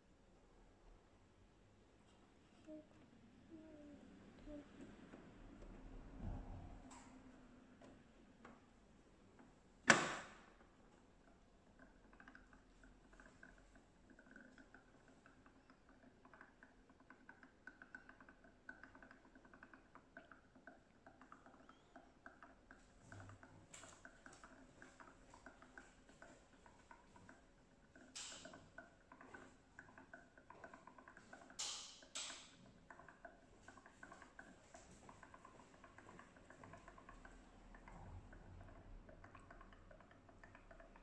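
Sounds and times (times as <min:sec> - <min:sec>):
ink bubbling and ticking: 0:01.0 - 0:41.0.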